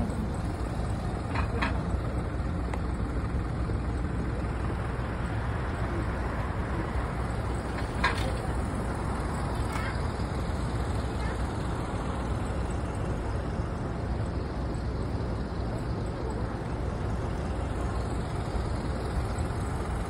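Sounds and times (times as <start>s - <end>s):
bus running close by: 0.0s - 20.0s
city road traffic: 0.0s - 20.0s.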